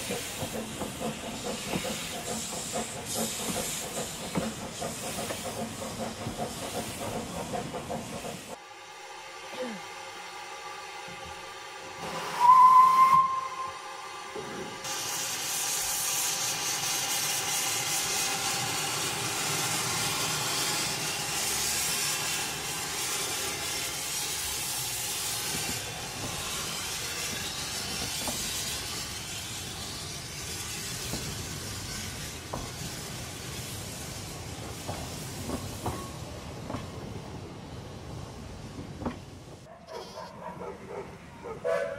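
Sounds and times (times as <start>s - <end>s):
train wheels clicking on rails: 0.0s - 8.6s, 14.3s - 39.7s
steam hissing: 0.0s - 39.7s
steam locomotive pulling away: 0.0s - 39.7s.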